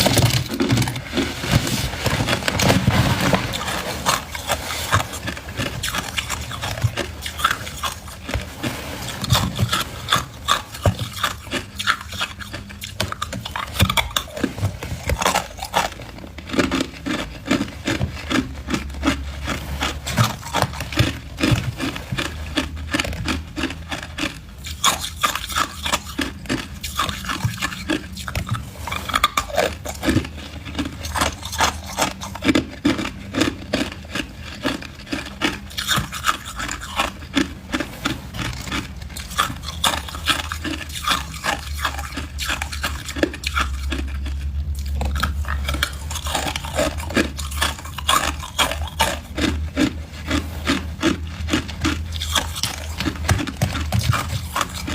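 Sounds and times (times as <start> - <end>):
ice being crunched: 0.0 - 44.2.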